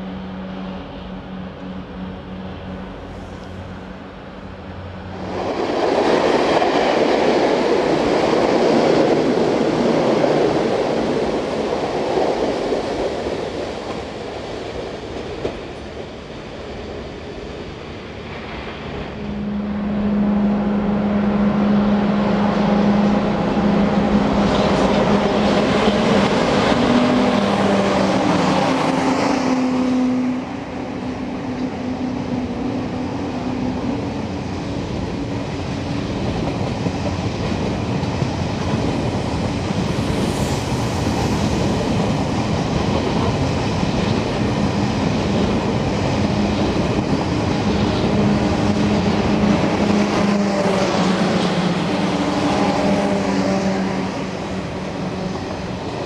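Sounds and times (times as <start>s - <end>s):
train power car hum: 0.0s - 56.0s
train wheels rushing on rails: 0.0s - 56.0s.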